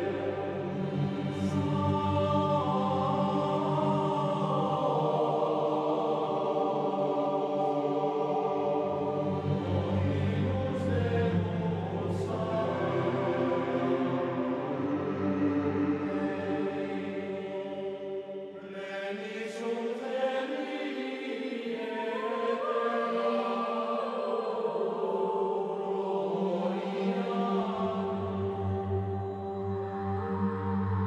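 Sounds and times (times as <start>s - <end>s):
chant-like choir voices: 0.0s - 31.0s.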